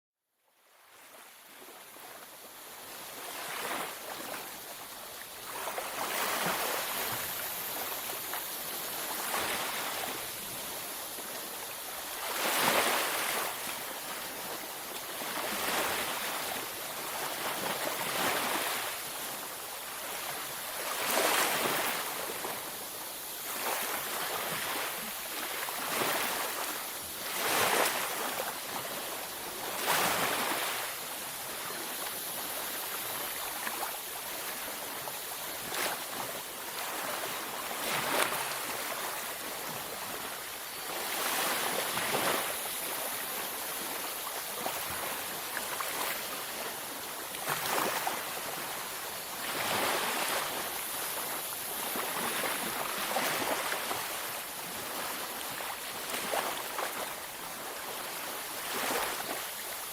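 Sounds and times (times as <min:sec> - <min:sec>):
ocean waves breaking on beach: 0:00.8 - 0:59.9.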